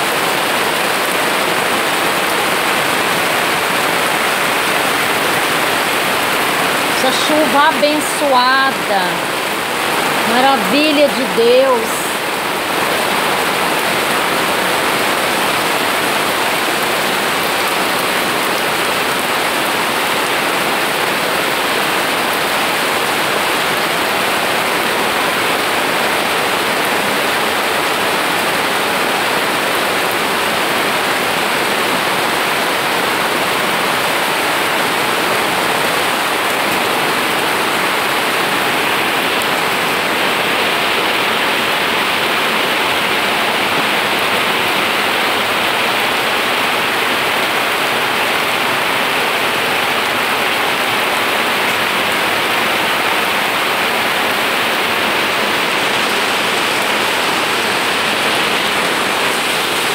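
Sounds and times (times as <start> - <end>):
rain on plants and paving: 0.0 - 59.9.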